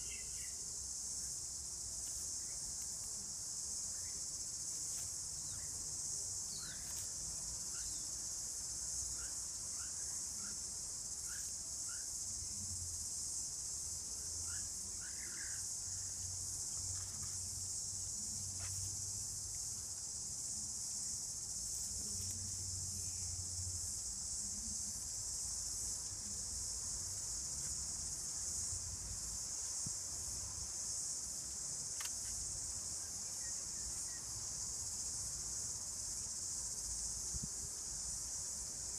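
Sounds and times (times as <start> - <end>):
crickets chorus: 0.0 - 38.9.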